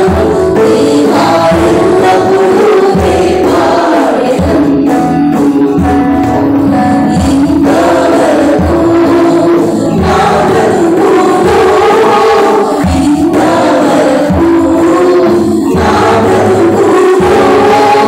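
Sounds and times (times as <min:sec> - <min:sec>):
group singing through microphones: 0:00.0 - 0:18.0.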